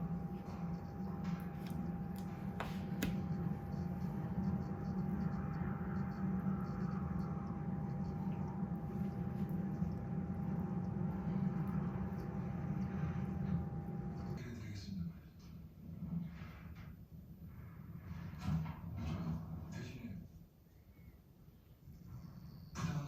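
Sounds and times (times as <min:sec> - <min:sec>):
appliance humming with high whine: 0:00.0 - 0:23.0.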